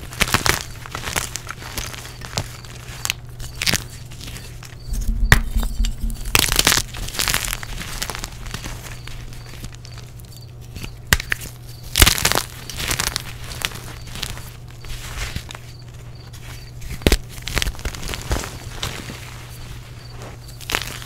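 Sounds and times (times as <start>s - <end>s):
chalk chunks cracking: 0.0s - 21.0s
chalk crunching and crumbling: 0.0s - 21.0s.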